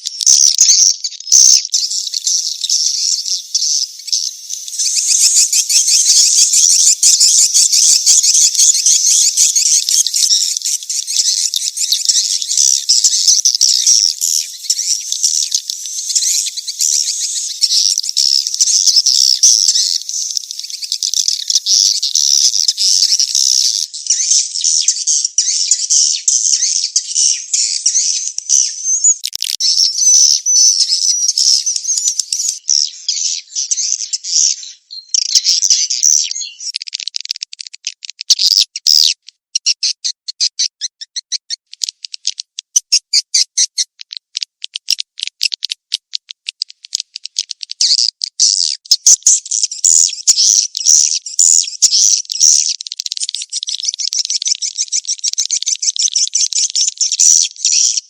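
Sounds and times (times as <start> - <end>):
rapid bird chirps and clicks: 0.0 - 58.0.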